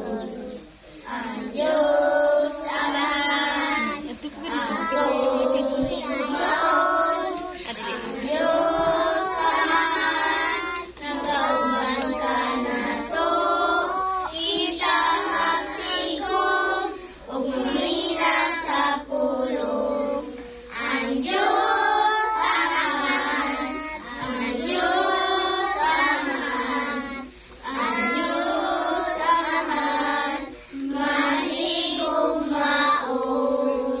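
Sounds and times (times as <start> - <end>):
children singing: 0.0 - 34.0.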